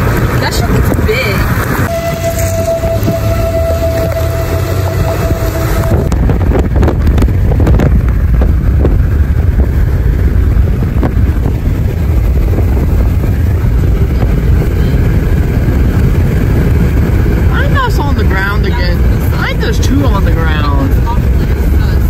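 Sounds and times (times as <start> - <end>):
car road and wind rumble: 0.0 - 22.0
steady tone: 1.8 - 22.0.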